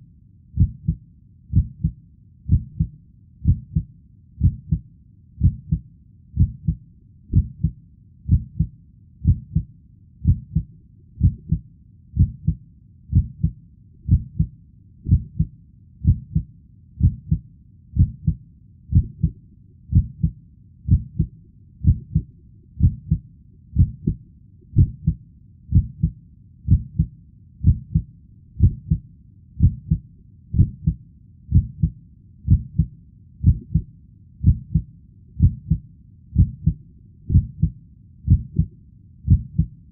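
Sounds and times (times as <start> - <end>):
heartbeat thumps: 0.6 - 4.8, 5.4 - 5.8, 6.4 - 11.6, 12.2 - 17.4, 18.0 - 23.2, 23.8 - 29.0, 29.6 - 35.8, 36.4 - 39.7.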